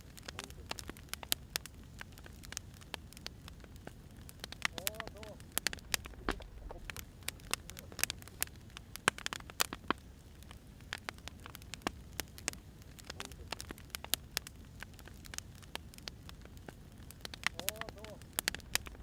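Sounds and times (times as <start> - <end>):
firewood crackling and popping: 0.0 - 19.0
low steady hiss: 0.0 - 19.0.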